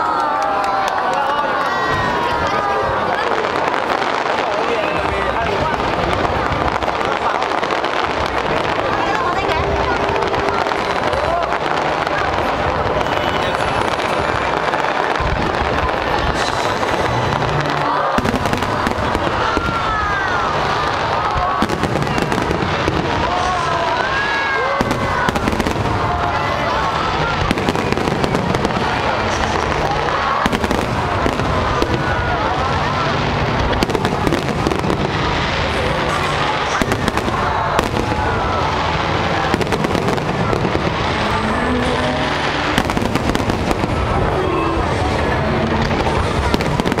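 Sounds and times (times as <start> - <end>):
fireworks crackling and popping: 0.0 - 47.0
fireworks whistling: 1.8 - 47.0.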